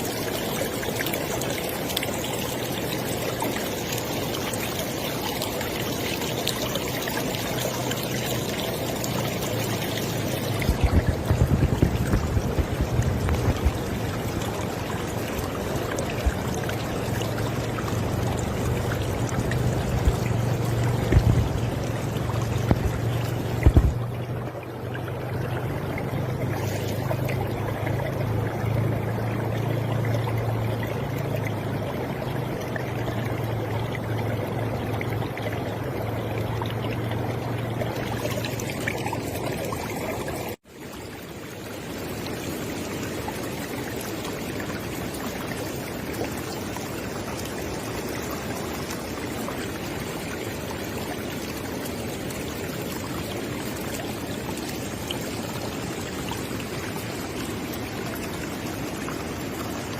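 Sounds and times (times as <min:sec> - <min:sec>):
river water rushing: 0:00.0 - 0:59.9
water splashes: 0:00.0 - 0:59.9.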